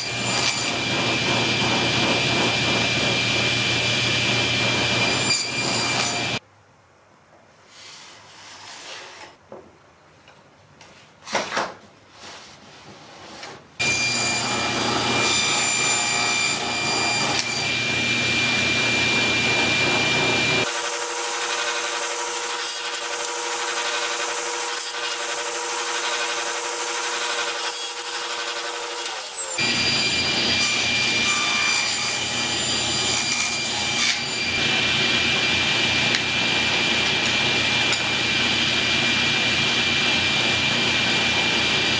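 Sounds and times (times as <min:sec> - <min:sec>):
table saw whining: 0:00.0 - 0:06.4, 0:13.8 - 0:41.9.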